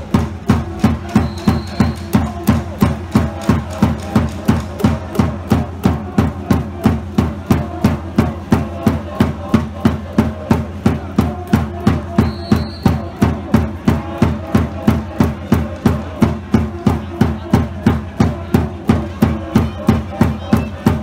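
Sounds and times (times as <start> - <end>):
drum beating steady rhythm: 0.0 - 21.0.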